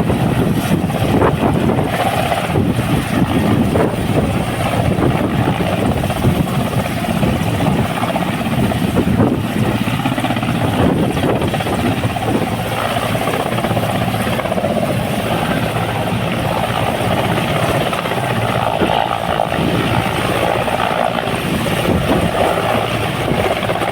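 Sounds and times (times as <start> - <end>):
helicopter rotor noise: 0.0 - 23.9.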